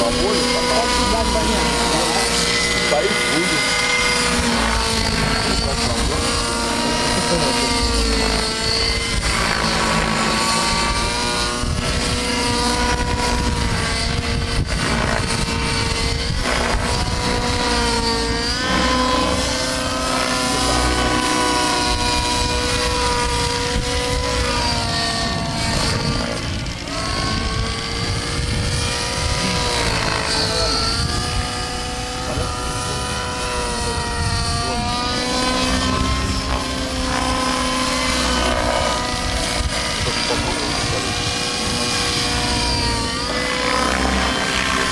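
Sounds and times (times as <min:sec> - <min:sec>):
model helicopter whining: 0:00.0 - 0:44.9.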